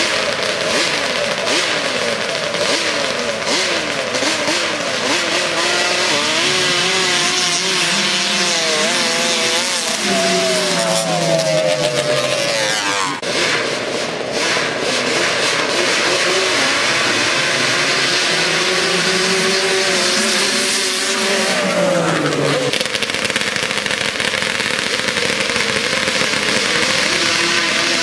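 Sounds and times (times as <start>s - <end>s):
atv engines revving at full throttle: 0.0s - 28.0s.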